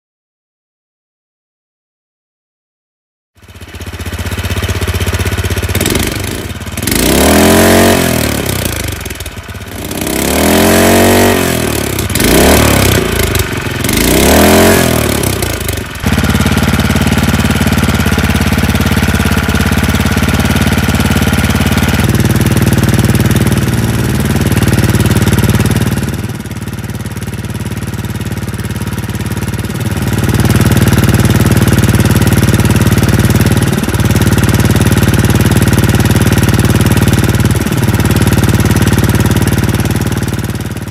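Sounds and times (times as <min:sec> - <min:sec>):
small engine revving and idling: 0:03.4 - 0:40.9.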